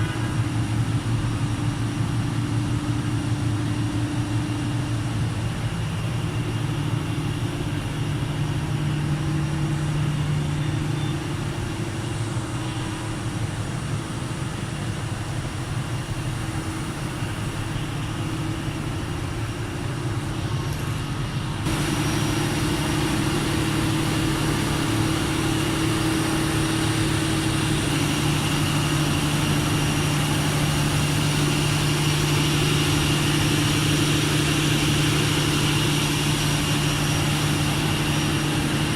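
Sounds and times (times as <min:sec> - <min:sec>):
diesel generator humming: 0:00.0 - 0:38.9.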